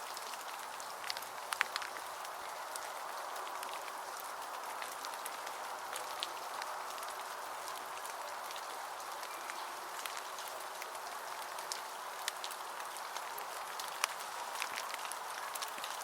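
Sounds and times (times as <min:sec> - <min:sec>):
soft hiss with faint ticks: 0:00.0 - 0:16.0.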